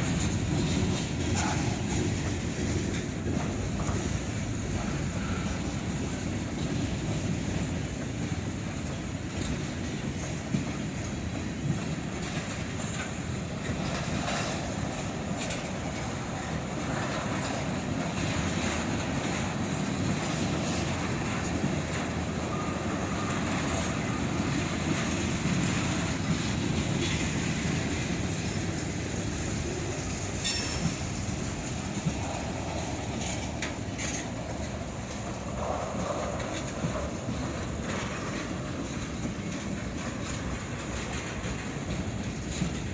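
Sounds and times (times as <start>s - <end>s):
train wheels rumbling on rail: 0.0s - 42.9s
wheels clicking over rail joints: 0.0s - 42.9s.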